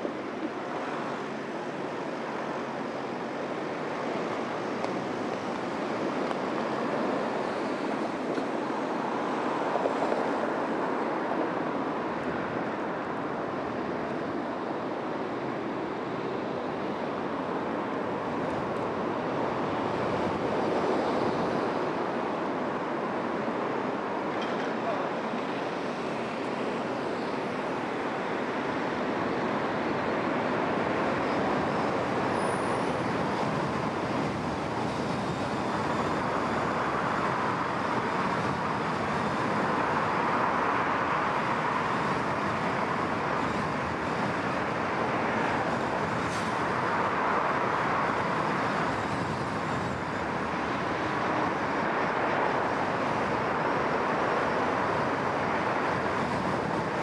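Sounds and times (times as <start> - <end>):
surrounding traffic: 0.0 - 57.0
tyres rolling on asphalt: 0.0 - 57.0
wind noise: 0.0 - 57.0.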